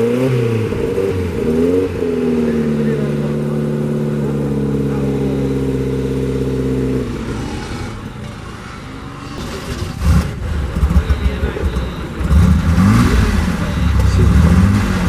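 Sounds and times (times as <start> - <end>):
car engine running: 0.0 - 15.0
low engine rev: 0.0 - 15.0
rough engine noise: 0.0 - 15.0.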